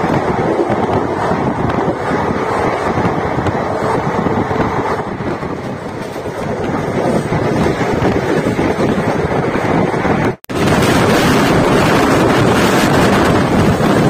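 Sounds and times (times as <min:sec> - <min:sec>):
wheel and rail noise: 0:00.0 - 0:14.0
wind buffeting microphone: 0:00.0 - 0:14.0.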